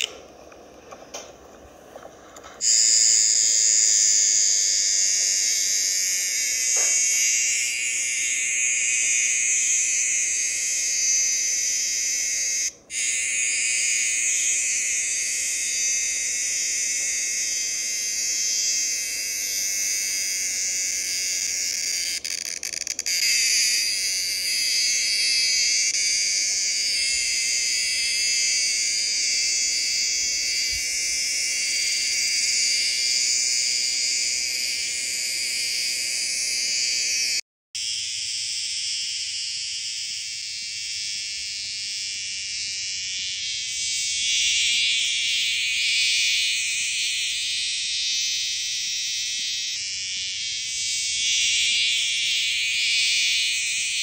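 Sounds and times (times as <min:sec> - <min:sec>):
cicada buzzing: 0:02.6 - 0:54.0.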